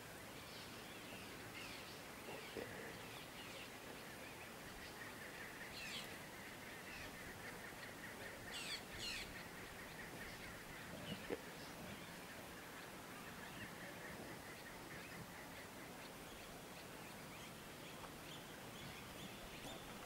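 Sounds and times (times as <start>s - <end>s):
birds chirping: 1.1s - 20.0s.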